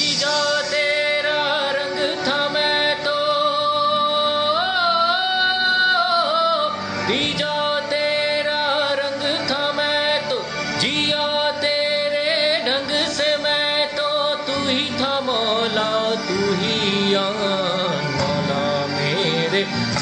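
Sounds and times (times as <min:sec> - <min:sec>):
man singing long notes: 0:00.0 - 0:20.0.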